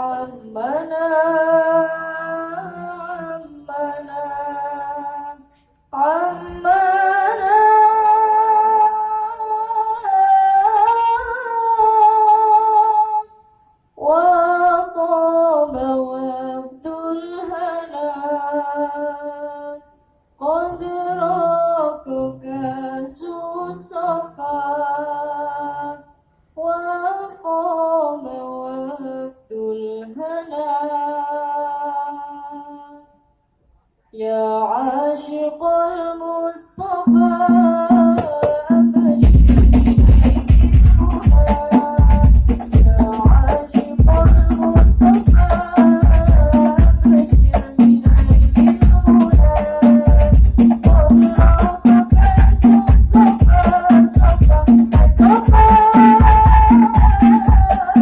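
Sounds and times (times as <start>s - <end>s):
woman singing unaccompanied: 0.0s - 33.2s, 34.1s - 58.0s.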